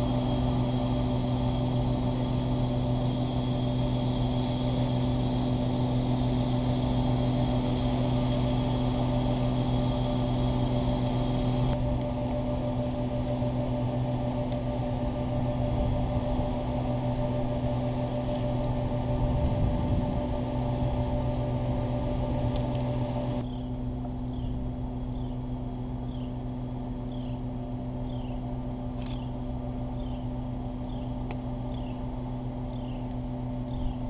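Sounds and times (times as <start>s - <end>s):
distant diesel locomotive hum: 0.0s - 34.0s.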